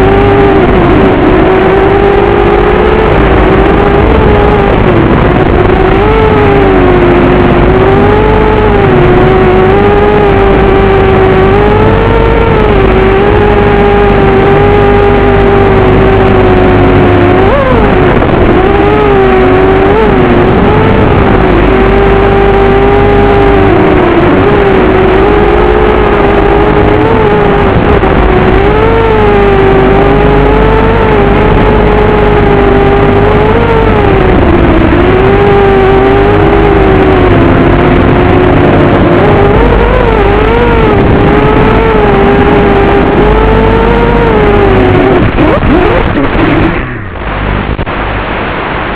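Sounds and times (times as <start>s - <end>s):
quadcopter motors whining: 0.0s - 47.2s.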